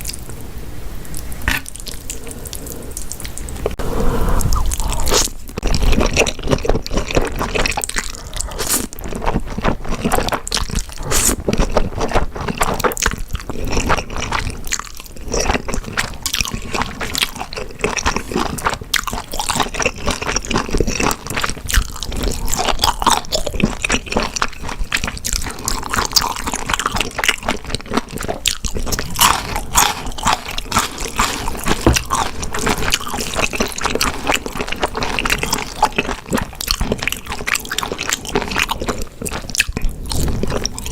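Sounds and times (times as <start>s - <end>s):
wet chewing with crunchy clicks: 4.8s - 40.9s.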